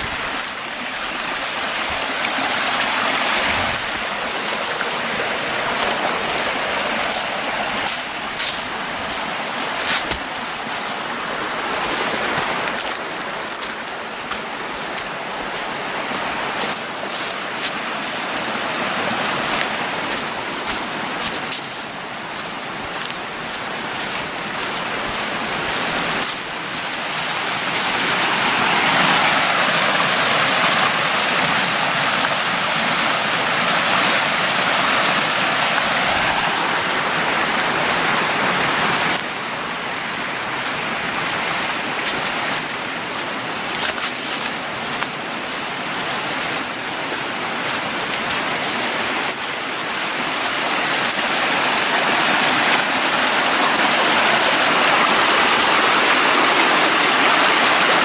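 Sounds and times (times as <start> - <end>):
waterfall rushing and splashing: 0.0 - 58.0.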